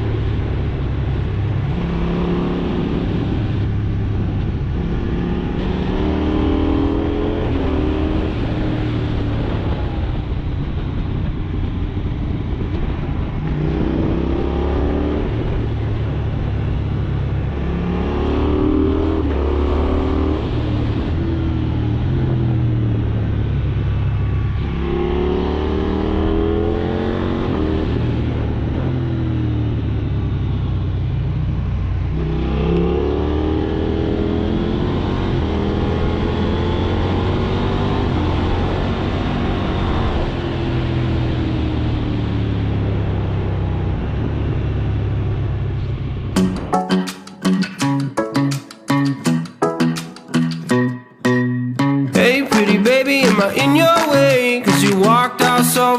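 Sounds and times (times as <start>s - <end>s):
motorcycle engine accelerating: 0.0s - 48.2s.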